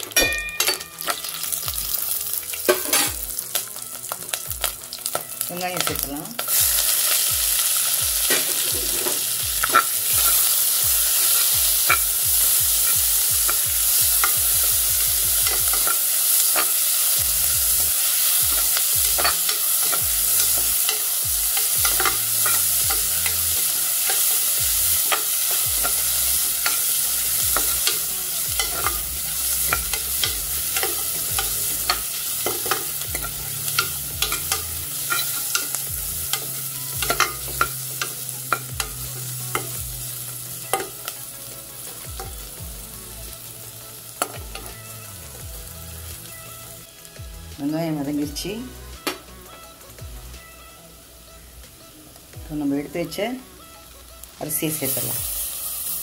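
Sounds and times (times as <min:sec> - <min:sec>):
onions sizzling in ghee: 0:00.0 - 0:56.0.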